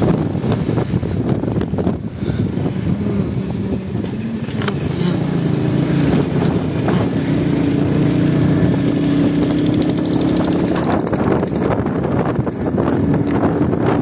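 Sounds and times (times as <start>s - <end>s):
motorcycle engine droning: 0.0s - 14.0s
wind buffeting microphone: 0.0s - 14.0s.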